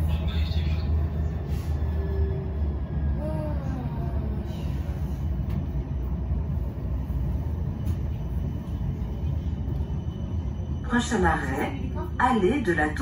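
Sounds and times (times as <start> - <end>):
tram rolling on rails: 0.0 - 13.0.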